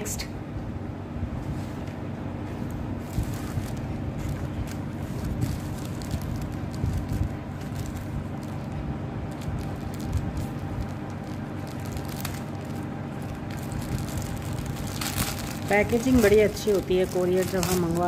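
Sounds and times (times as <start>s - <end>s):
low appliance hum: 0.0s - 18.0s
plastic mailer crinkling: 2.5s - 18.0s.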